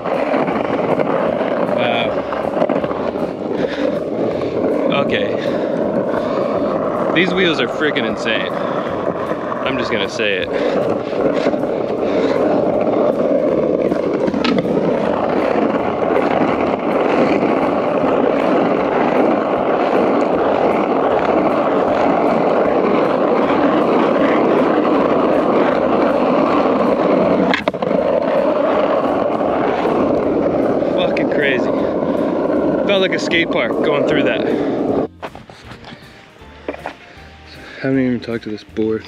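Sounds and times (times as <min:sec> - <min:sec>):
skateboard rolling on rough asphalt: 0:00.0 - 0:39.0.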